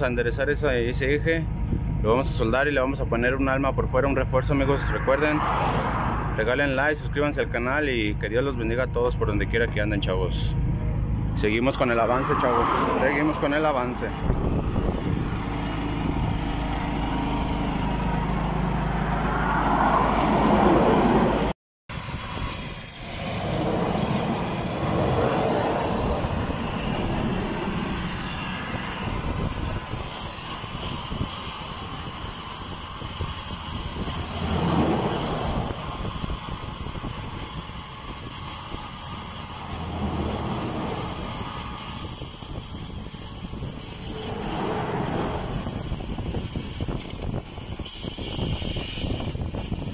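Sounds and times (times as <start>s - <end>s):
highway traffic passing: 0.7s - 49.9s.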